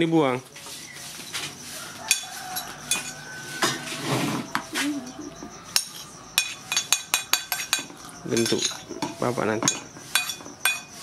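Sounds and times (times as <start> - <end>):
metal spoon scraping ceramic plate: 1.3 - 11.0.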